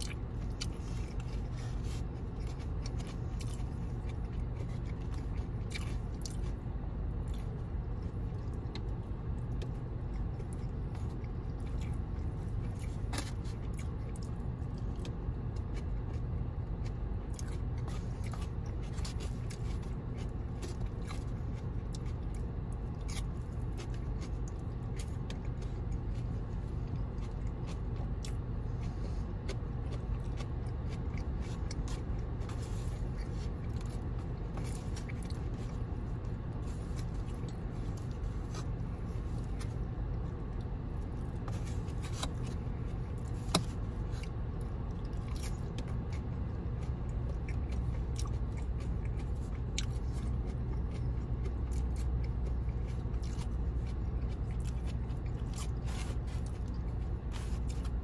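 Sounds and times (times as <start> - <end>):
chewing and biting food: 0.0 - 58.0
low hum inside a car: 0.0 - 58.0.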